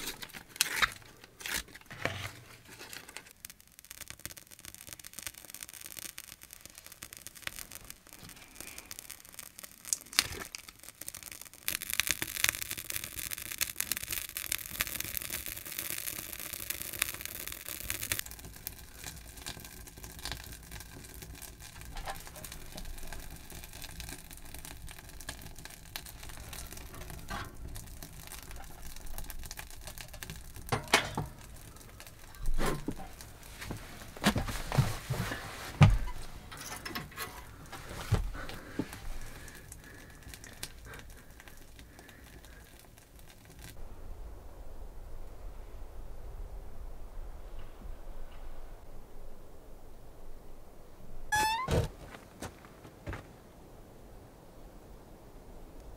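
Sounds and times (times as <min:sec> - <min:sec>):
kindling fire crackling: 0:00.0 - 0:55.9.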